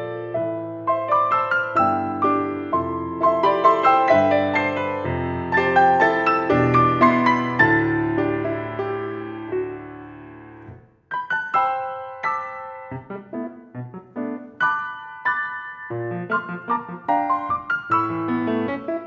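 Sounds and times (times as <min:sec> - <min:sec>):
piano chords and notes: 0:00.0 - 0:19.0.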